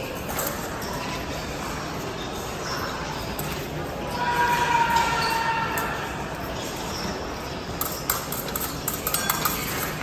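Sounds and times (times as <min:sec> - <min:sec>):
fencing blades clashing: 0:00.0 - 0:10.0
hum of large hall: 0:00.0 - 0:10.0.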